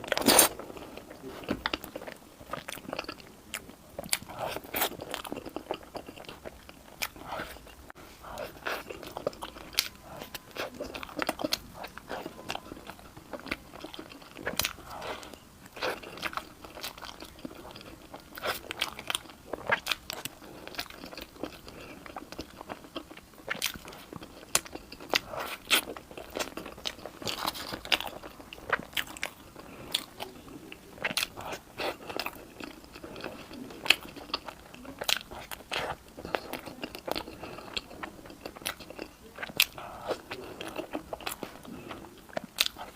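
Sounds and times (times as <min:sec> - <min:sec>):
crunchy food chewing: 0:00.0 - 0:42.9.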